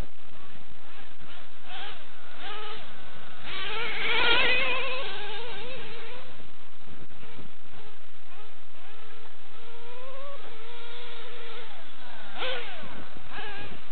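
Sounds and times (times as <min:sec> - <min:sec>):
nitro engine buzzing: 0:00.0 - 0:13.9.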